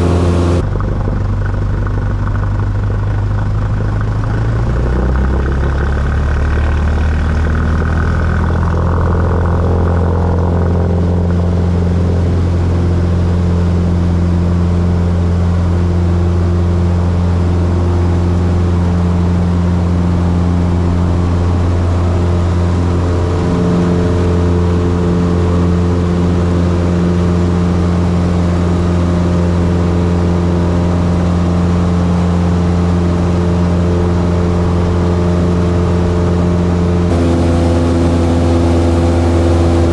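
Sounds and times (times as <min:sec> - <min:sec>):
light airplane engine droning: 0:00.0 - 0:39.9.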